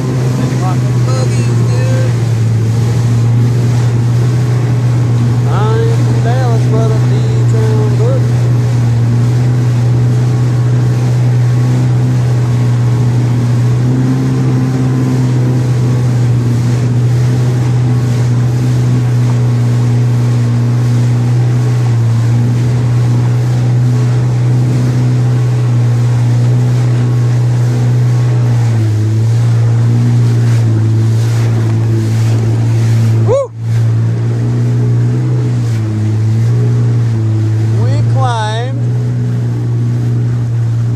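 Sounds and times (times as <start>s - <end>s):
jet ski engine drone: 0.0s - 40.9s
water rushing: 0.0s - 40.9s.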